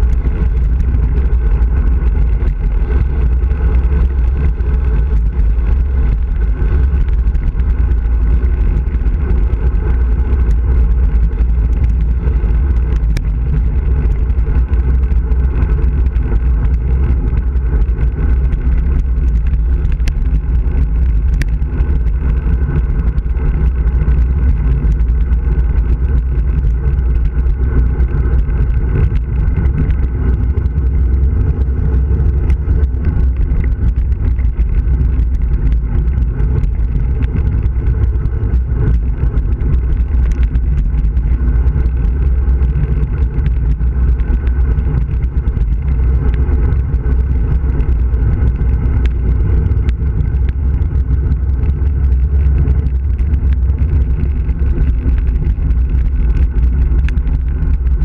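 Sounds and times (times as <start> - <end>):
wind buffeting the microphone: 0.0 - 58.0.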